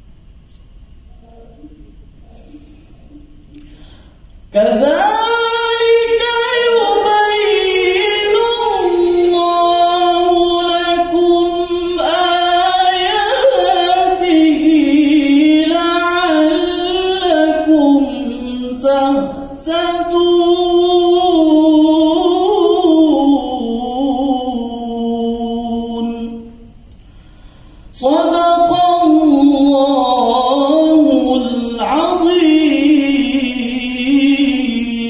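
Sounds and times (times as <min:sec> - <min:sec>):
man chanting into a microphone: 0:01.2 - 0:26.7, 0:27.9 - 0:35.0.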